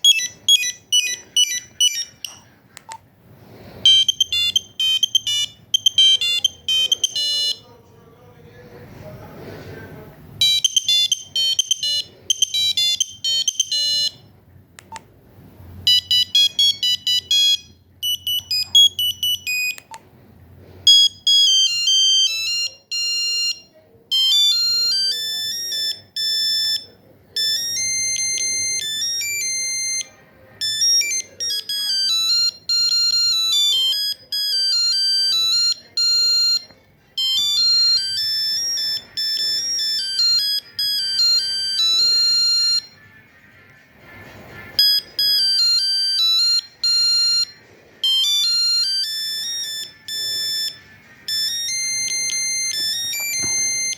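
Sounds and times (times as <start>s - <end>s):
mobile phone beeping ringtone melodies: 0.0s - 2.5s, 3.5s - 7.7s, 10.4s - 14.3s, 15.8s - 20.0s, 20.8s - 43.1s, 44.8s - 53.9s.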